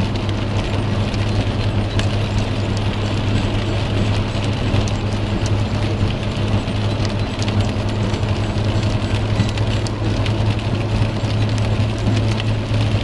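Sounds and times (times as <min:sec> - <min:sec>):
engine and tyre drone: 0:00.0 - 0:13.0.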